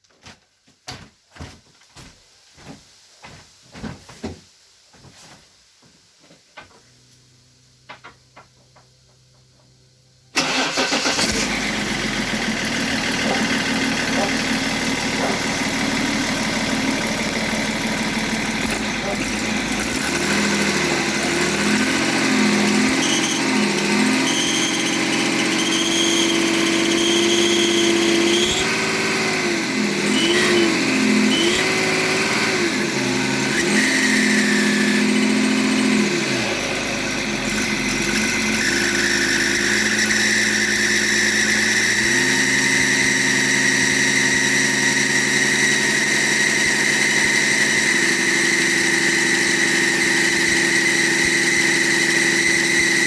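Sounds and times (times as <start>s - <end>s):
diesel engine revving and idling: 10.4s - 53.0s.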